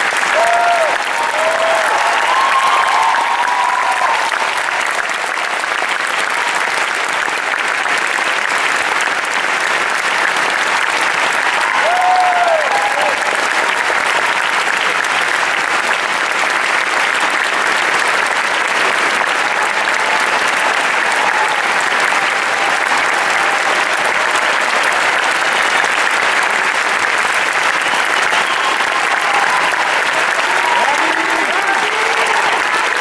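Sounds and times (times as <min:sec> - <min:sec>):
audience applauding: 0:00.0 - 0:33.0.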